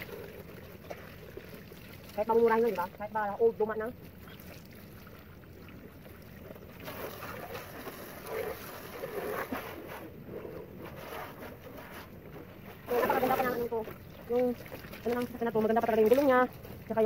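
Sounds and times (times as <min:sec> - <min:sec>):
hose water spraying on car: 0:00.0 - 0:17.0.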